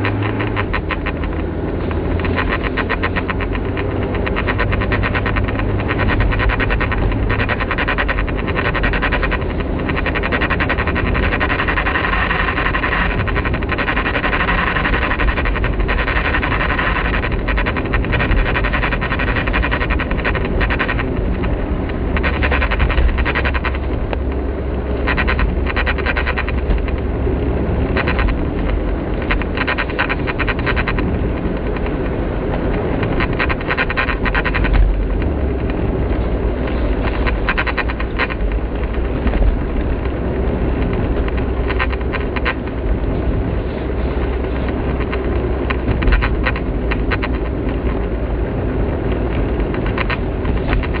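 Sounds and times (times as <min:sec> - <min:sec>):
low hum of car driving: 0:00.0 - 0:51.0
rapid ticking from dashboard: 0:00.0 - 0:51.0.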